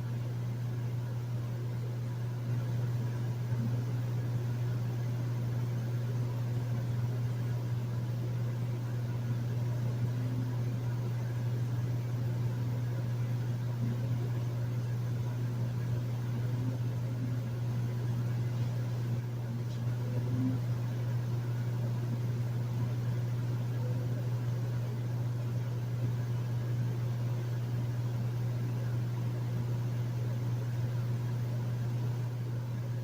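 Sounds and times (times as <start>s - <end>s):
air conditioner running: 0.0s - 33.0s.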